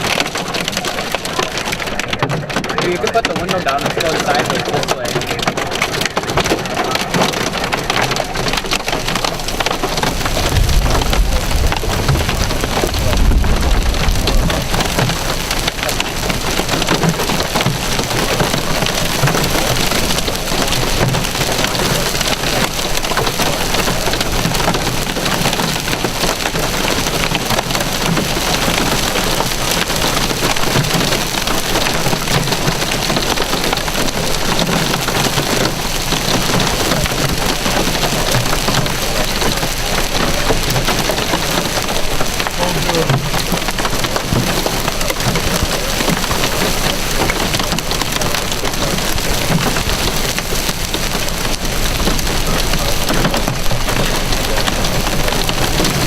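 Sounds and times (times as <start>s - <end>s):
hailstones and rain pelting: 0.0s - 56.0s
deep rumble: 2.8s - 56.0s.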